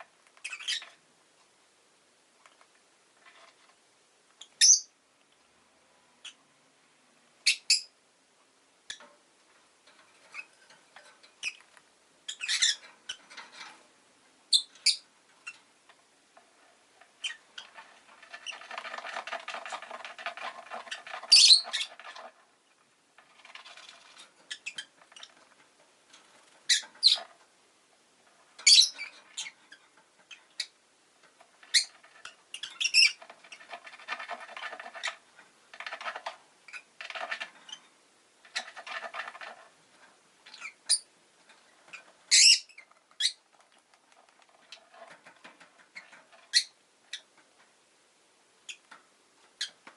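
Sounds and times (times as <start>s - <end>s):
scratching and rustling: 0.0s - 1.5s, 2.4s - 4.6s, 8.9s - 14.0s, 14.6s - 47.9s.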